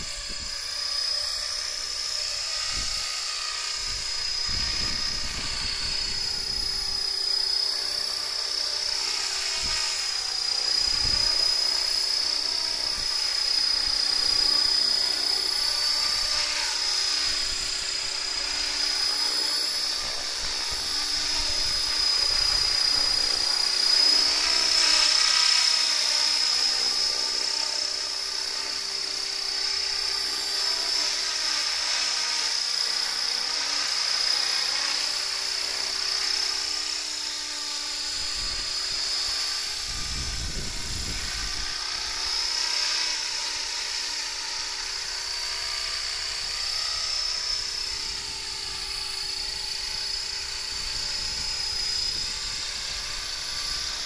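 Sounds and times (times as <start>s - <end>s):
rc helicopter motor whine: 0.0s - 54.0s.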